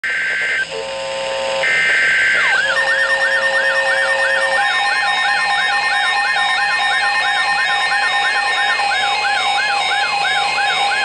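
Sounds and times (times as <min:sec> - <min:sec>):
paired data tones: 0:00.0 - 0:11.0
wailing alert tone: 0:01.6 - 0:11.0.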